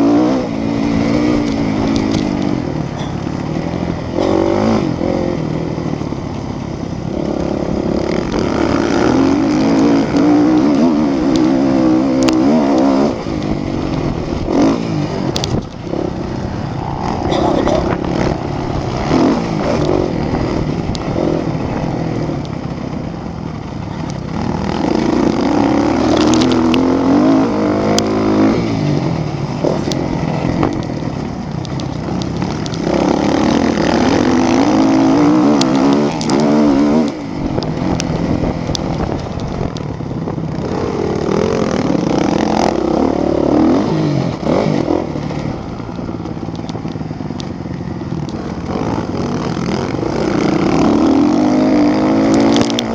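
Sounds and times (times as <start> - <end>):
motocross engines revving: 0.0 - 46.9, 48.0 - 52.9.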